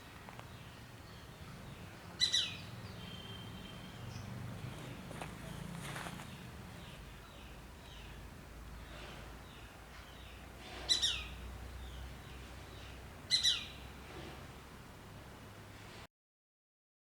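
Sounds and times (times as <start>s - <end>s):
faint chirps of other birds: 0.0s - 14.4s.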